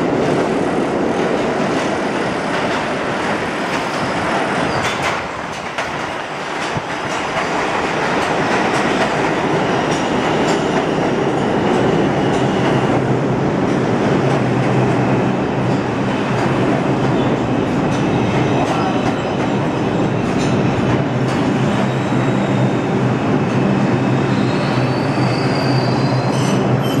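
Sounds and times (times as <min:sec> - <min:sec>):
subway train wheels rumbling: 0:00.0 - 0:27.0.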